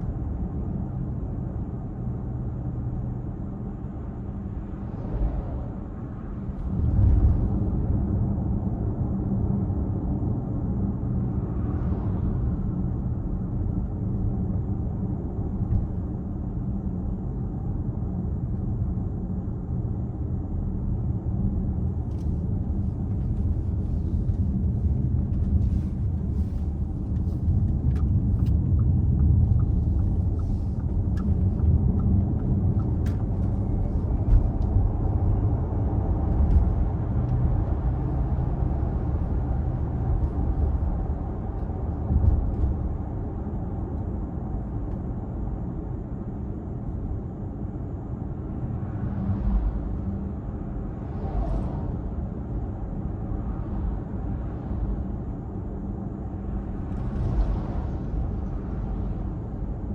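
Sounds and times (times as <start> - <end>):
car road rumble: 0.0 - 59.9.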